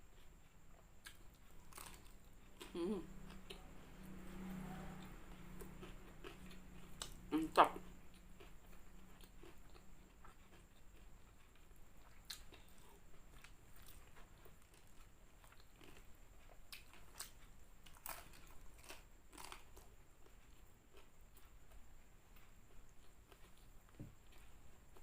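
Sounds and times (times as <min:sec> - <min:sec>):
person chewing crispy chicken: 0:00.2 - 0:03.7, 0:05.0 - 0:07.2, 0:08.0 - 0:25.0.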